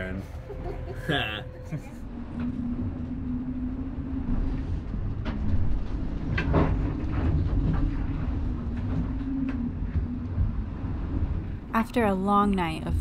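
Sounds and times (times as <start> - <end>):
boat and sea rumble: 0.0 - 13.0
constant hum: 0.0 - 13.0.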